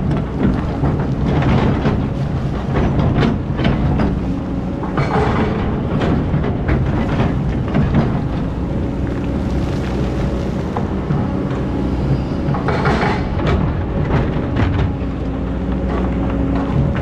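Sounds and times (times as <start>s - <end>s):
metallic clanks and knocks: 0.0s - 9.2s, 12.4s - 17.0s
heavy diesel engine running: 0.0s - 17.0s.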